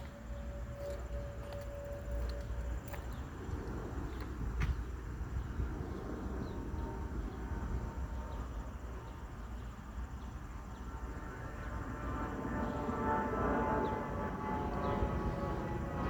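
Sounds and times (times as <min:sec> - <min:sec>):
distant engine droning: 0:00.0 - 0:16.0
steady low rumble: 0:00.0 - 0:16.0.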